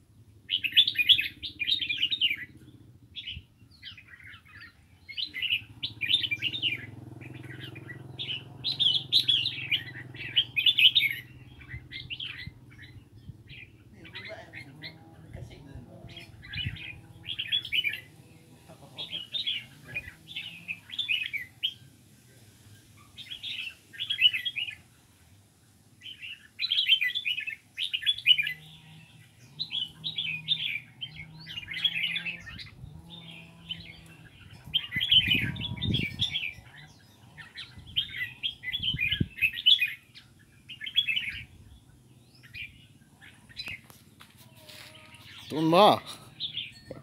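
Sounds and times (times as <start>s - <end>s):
songbirds singing: 0.0s - 47.0s.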